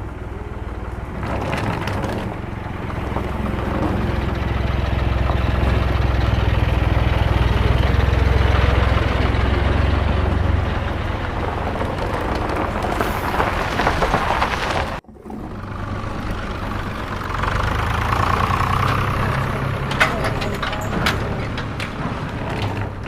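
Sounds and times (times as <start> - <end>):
engine running with low hum: 0.0 - 23.0
rattling running noise: 0.0 - 23.0.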